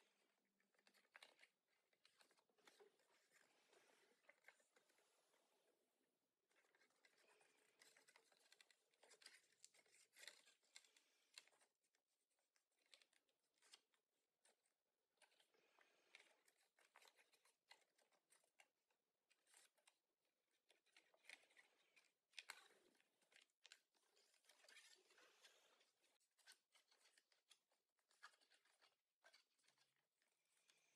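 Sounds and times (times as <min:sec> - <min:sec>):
paper crinkling while folded: 0:00.0 - 0:05.7, 0:06.5 - 0:30.9.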